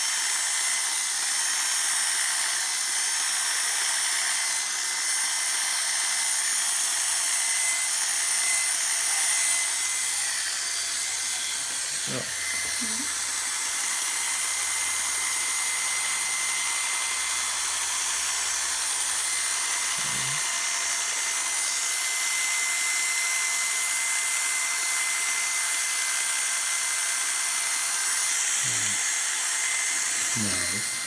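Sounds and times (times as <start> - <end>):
electric clippers running: 0.0 - 31.0.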